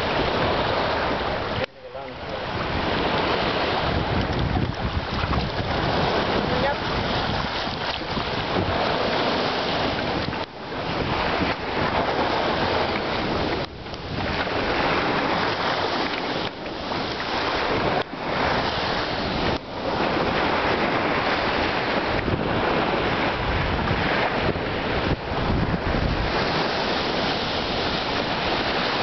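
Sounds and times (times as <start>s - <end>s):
small waves washing on sand: 0.0s - 29.0s
wind buffeting microphone: 0.0s - 29.0s.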